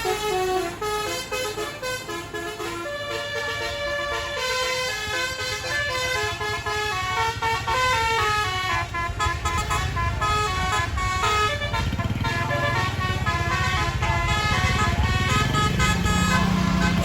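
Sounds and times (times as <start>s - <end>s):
bus engine running: 0.0s - 17.0s
bus horn playing melody: 0.0s - 17.0s.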